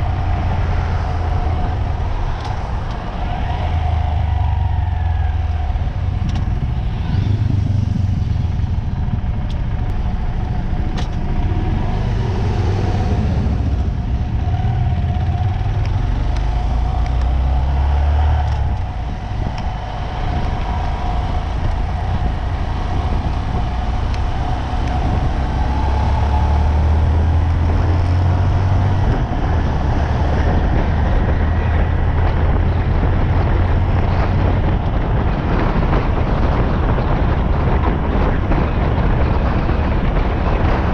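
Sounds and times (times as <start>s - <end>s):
vehicle engine and road rumble: 0.0s - 40.9s
wind and tyre noise: 0.0s - 40.9s.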